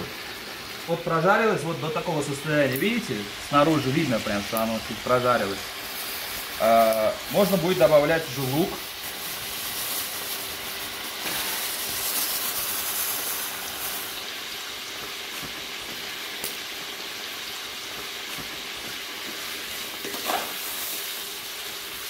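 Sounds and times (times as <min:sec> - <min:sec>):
meat and onion sizzling in oil: 0:00.0 - 0:22.0.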